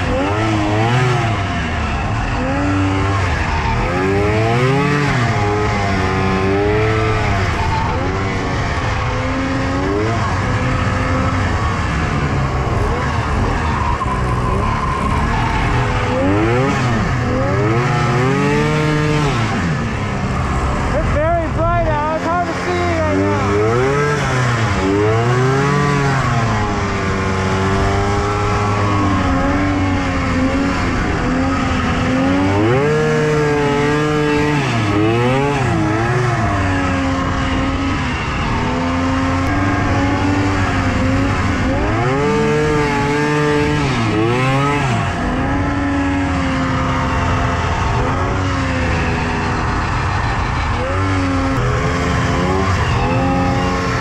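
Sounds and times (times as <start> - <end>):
steady rushing noise: 0.0 - 53.9
snowmobile engine revving: 0.0 - 54.0.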